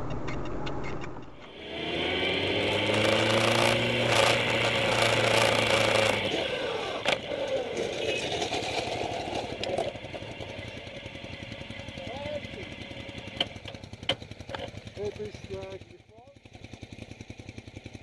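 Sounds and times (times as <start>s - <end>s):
motorcycle engine at speed: 0.0s - 18.0s.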